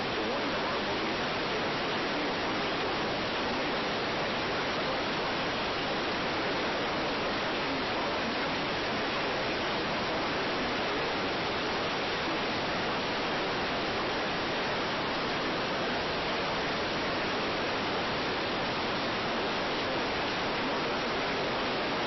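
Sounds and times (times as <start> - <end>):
steady static hiss: 0.0 - 22.0.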